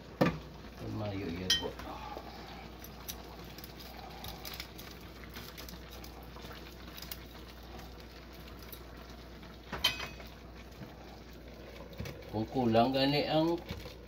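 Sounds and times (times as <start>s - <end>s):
broth simmering in a pan: 0.0s - 14.0s.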